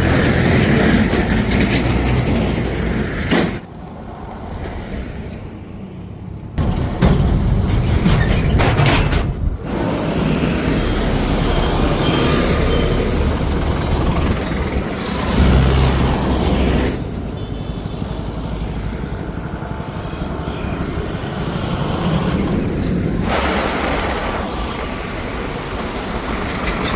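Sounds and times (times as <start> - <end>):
diesel engine rumbling: 0.0 - 4.2, 5.7 - 26.9.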